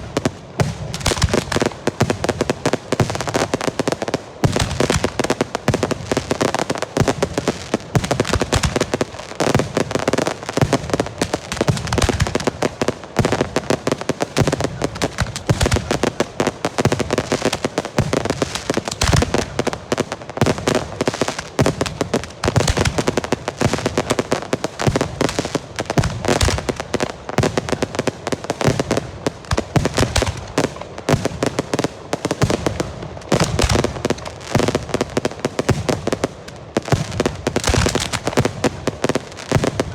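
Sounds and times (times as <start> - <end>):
rockets banging and cracking: 0.0 - 39.9.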